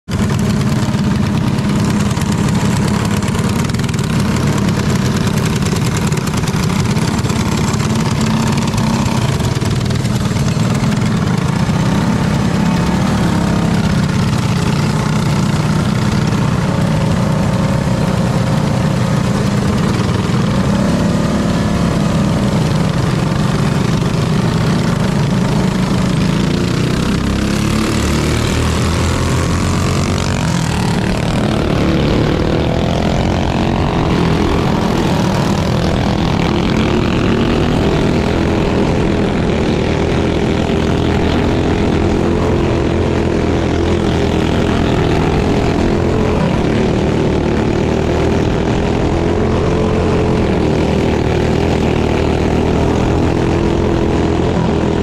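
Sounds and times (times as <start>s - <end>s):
kart engine droning: 0.0s - 55.0s
other kart engines: 0.0s - 55.0s.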